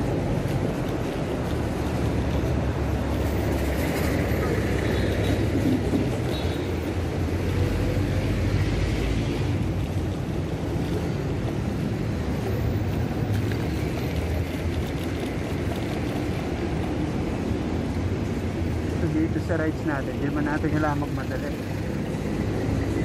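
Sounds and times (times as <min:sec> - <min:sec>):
motor traffic: 0:00.0 - 0:23.0.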